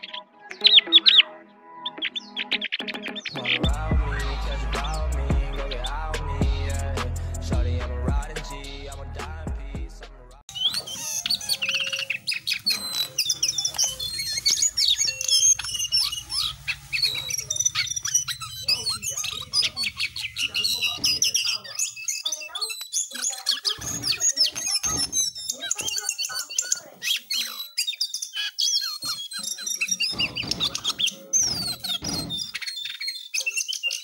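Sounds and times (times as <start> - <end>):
songbird chirping and warbling: 0.0 - 7.0, 10.4 - 34.0.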